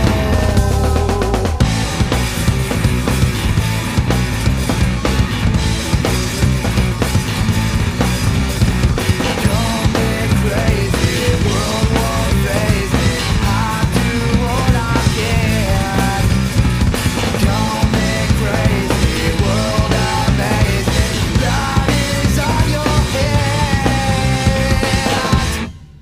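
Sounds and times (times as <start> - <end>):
rock band playing: 0.0 - 26.0.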